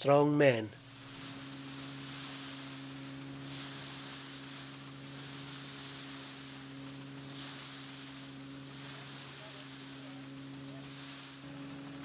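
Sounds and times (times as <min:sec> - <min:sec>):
threshing mill humming: 0:00.0 - 0:12.0.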